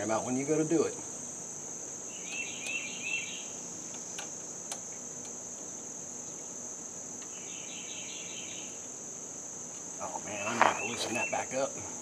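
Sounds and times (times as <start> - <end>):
crickets chirping chorus: 0.0 - 12.0.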